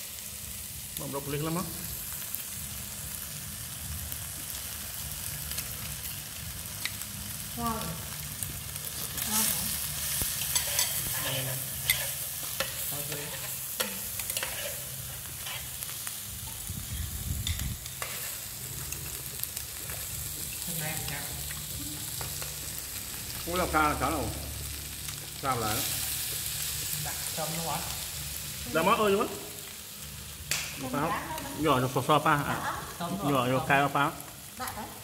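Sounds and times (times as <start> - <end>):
food sizzling on grill pan: 0.0 - 35.0.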